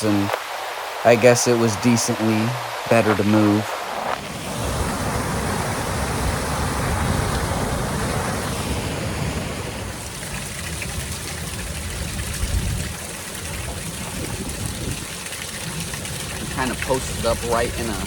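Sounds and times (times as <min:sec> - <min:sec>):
river current rushing: 0:00.0 - 0:18.0.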